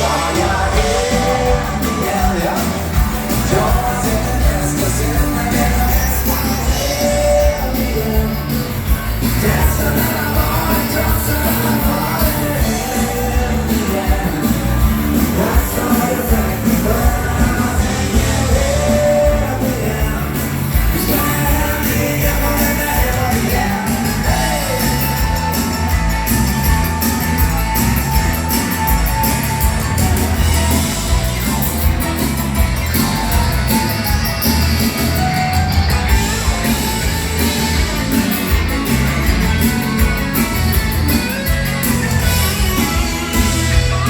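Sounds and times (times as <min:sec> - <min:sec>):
live band with singing: 0:00.0 - 0:44.0.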